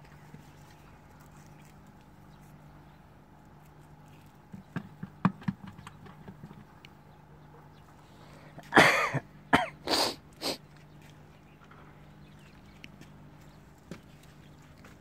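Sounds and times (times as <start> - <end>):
faint steady low hum: 0.0 - 15.0.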